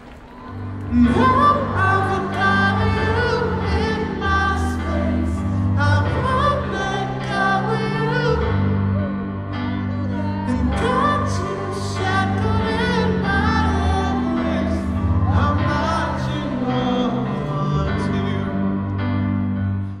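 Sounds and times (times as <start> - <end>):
man singing into microphone: 0.9 - 9.4, 10.4 - 19.1.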